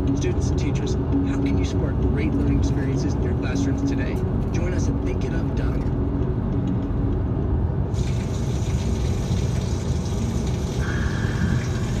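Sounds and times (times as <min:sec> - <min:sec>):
tyre and engine rumble: 0:00.0 - 0:12.0.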